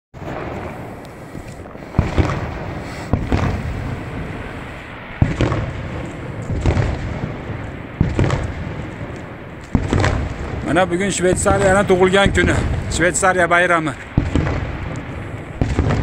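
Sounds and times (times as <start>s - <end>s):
firework shells exploding: 0.2s - 16.0s.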